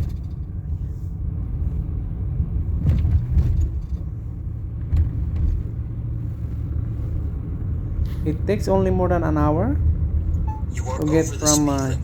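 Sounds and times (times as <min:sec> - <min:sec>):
car driving rumble inside cabin: 0:00.0 - 0:12.0.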